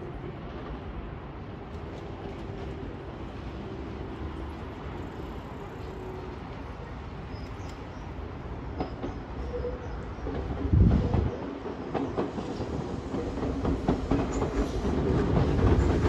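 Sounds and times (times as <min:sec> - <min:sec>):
distant train rumble: 0:00.0 - 0:16.0.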